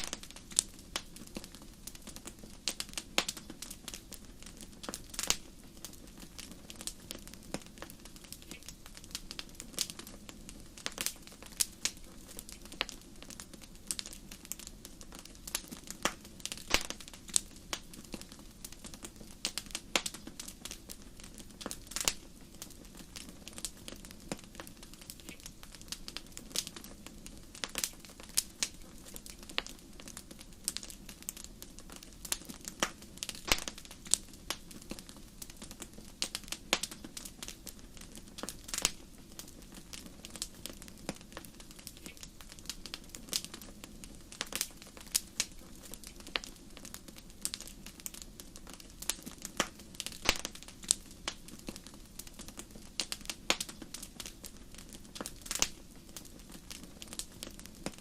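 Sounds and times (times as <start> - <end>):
soft hiss of flames: 0.0 - 58.0
wood fire crackling: 0.0 - 58.0.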